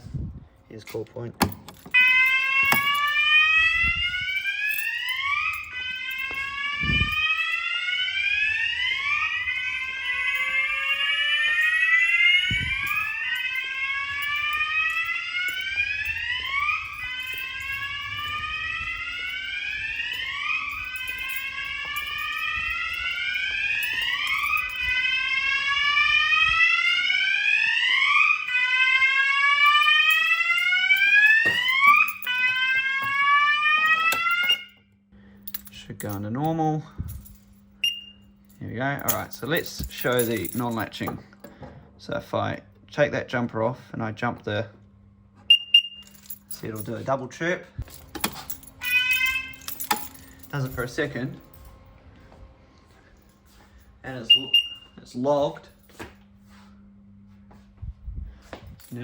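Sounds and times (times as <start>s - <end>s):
fire alarm rising sweep tone: 1.7s - 36.2s, 37.0s - 41.1s, 44.8s - 46.8s, 47.8s - 57.8s.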